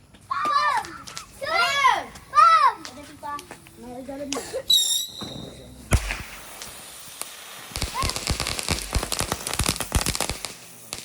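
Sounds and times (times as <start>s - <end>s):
firecrackers cracking and popping: 0.1s - 5.1s, 5.9s - 11.0s.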